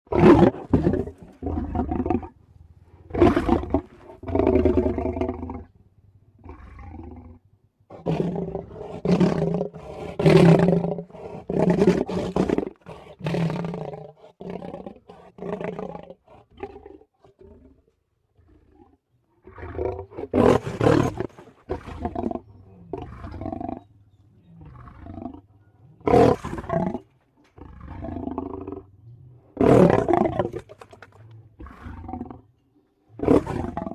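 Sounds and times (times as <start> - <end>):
leopards growling and snarling: 0.1 - 33.9.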